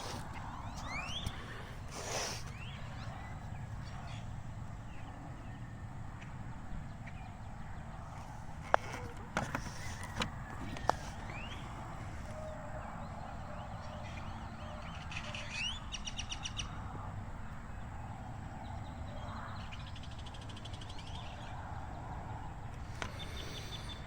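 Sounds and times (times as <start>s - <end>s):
birds trilling and chirping: 0.0s - 24.0s.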